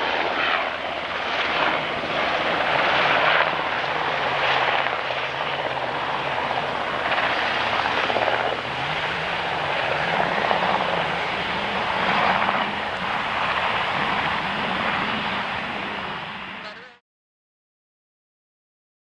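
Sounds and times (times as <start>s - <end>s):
helicopter flying: 0.0s - 17.0s.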